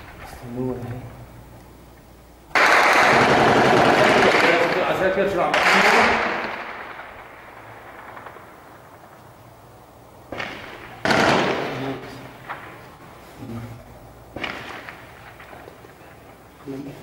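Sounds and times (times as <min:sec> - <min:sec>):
gunshots echoing: 0:02.5 - 0:16.6.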